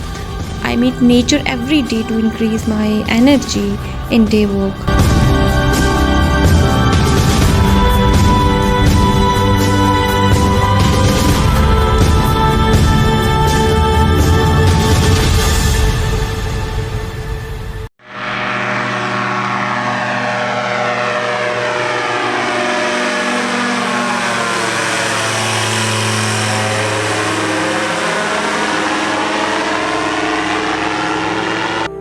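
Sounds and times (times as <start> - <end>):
aircraft flying over: 0.0 - 32.0.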